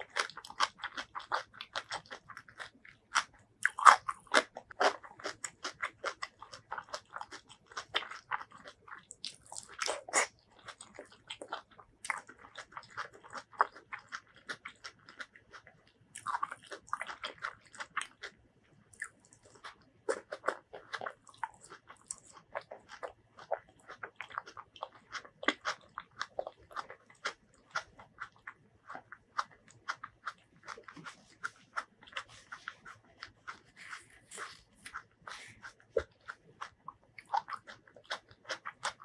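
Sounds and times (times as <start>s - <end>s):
chewing tomato: 0.0s - 39.0s.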